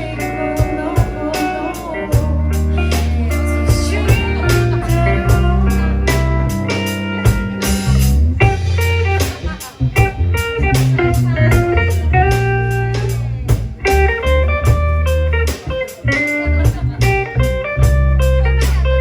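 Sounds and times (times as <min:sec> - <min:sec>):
electric guitar notes: 0:00.0 - 0:19.0
sustained bass line: 0:00.0 - 0:19.0
drum hits: 0:03.0 - 0:18.8.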